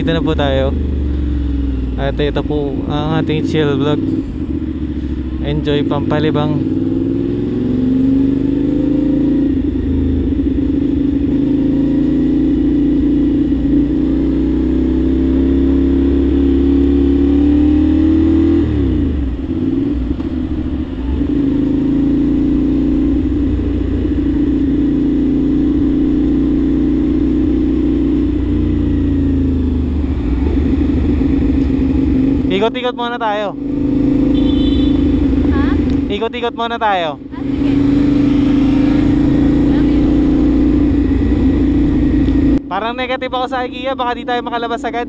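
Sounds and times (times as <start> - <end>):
motorcycle engine cruising: 0.0 - 45.0
wind and road noise: 0.0 - 45.0.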